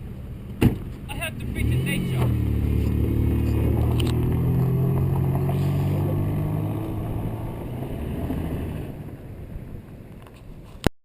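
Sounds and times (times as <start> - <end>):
car engine running: 0.0 - 9.9.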